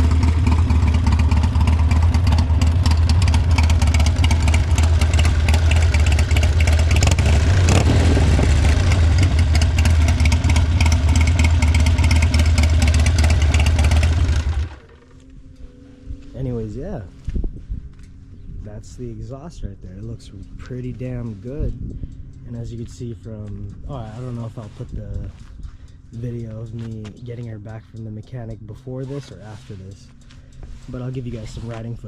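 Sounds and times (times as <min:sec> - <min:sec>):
motorcycle engine exhaust note: 0:00.0 - 0:32.0.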